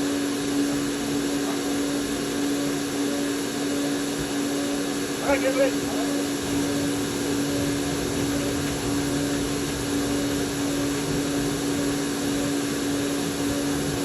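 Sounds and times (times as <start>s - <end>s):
vacuum motor hum: 0.0s - 14.0s.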